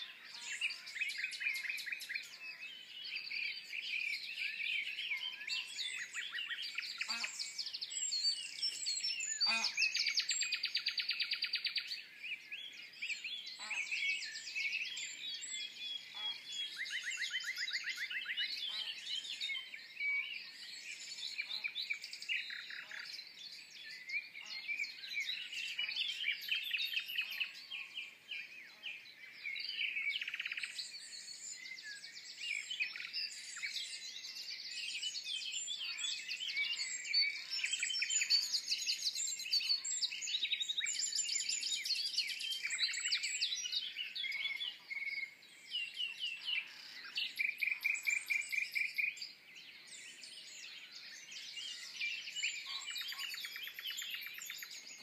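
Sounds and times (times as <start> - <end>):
nightingale singing: 0.0 - 55.0
songbirds dawn chorus: 0.0 - 55.0.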